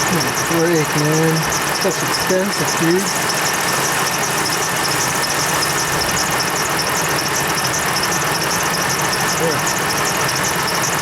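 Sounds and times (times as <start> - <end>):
fast high ticking: 0.0 - 11.0
pickup engine idling: 0.0 - 11.0.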